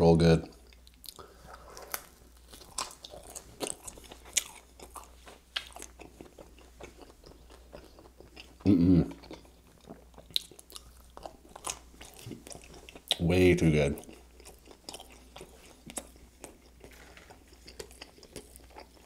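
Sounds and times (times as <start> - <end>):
crunchy chewing: 0.7 - 13.2, 14.0 - 19.0.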